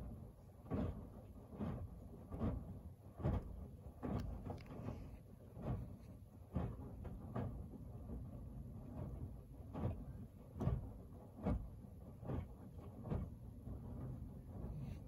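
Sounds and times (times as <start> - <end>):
washing machine churning: 0.0 - 15.0.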